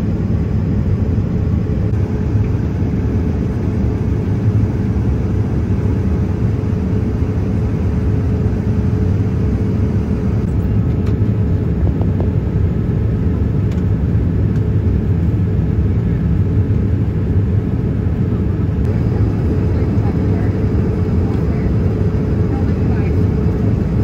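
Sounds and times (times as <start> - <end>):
airliner cabin roar: 0.0 - 24.0.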